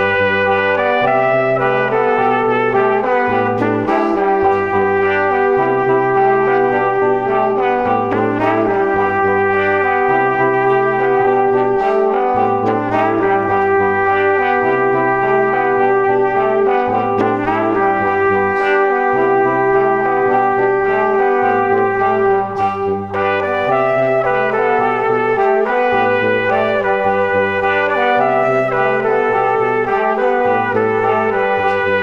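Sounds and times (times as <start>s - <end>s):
instrumental music: 0.0s - 32.0s.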